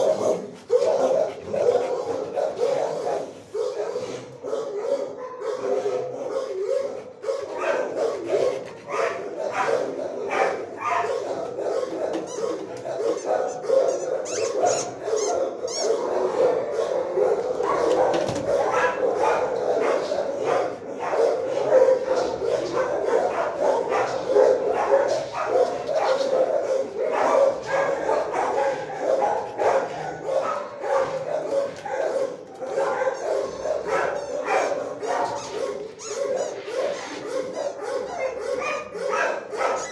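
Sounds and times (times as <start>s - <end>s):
dogs barking and yipping: 0.0s - 39.9s.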